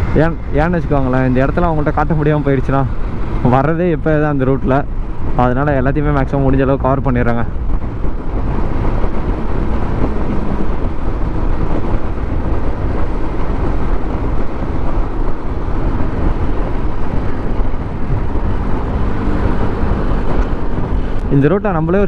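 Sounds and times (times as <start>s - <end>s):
road noise: 0.0s - 22.0s
wind rush: 0.0s - 22.0s.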